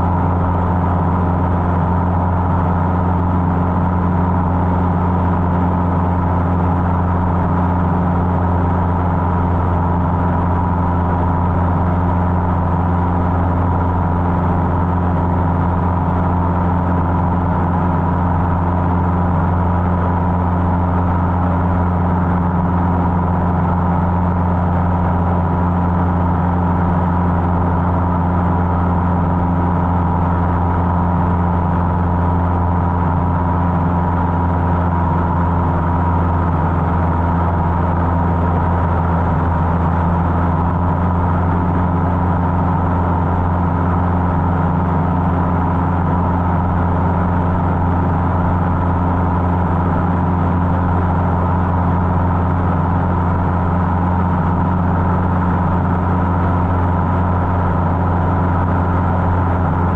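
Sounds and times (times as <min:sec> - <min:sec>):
airplane engine and propeller drone: 0:00.0 - 0:59.9.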